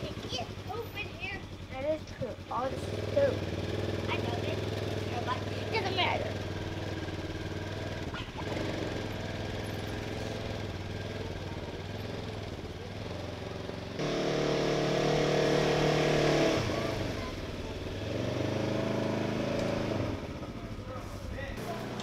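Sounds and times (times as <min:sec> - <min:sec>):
utv engine revving: 0:00.0 - 0:22.0.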